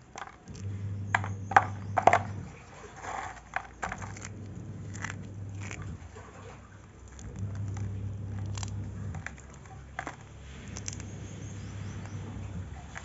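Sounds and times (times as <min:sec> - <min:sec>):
dry clay flakes snapping: 0:00.0 - 0:13.0.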